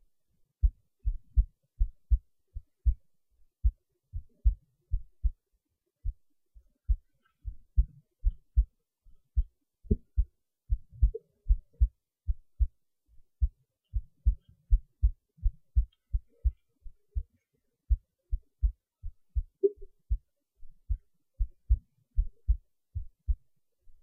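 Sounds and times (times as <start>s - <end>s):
heartbeat thumps: 0.6s - 5.4s, 6.0s - 23.5s.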